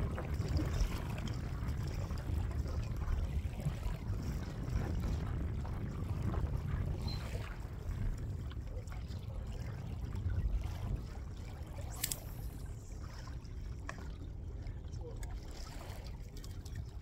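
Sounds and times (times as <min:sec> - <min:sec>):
water lapping against a hull: 0:00.0 - 0:17.0.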